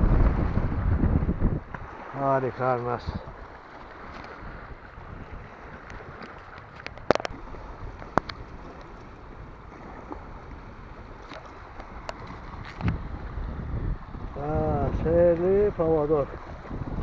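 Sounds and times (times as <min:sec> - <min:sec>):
small waves lapping: 0:00.0 - 0:17.0
wind on microphone: 0:00.0 - 0:17.0.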